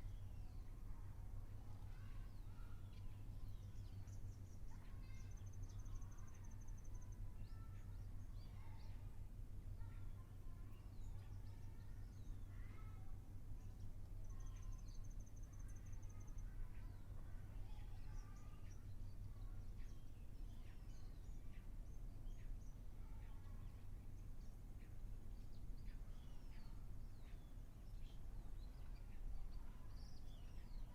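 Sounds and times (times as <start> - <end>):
wild birds chirping and whistling: 0.0 - 9.2, 9.8 - 30.9.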